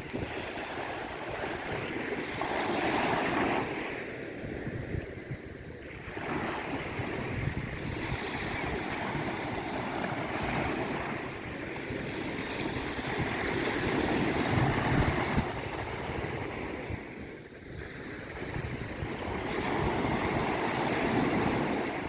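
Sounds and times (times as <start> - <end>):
sea waves washing onto shore: 0.0 - 22.0.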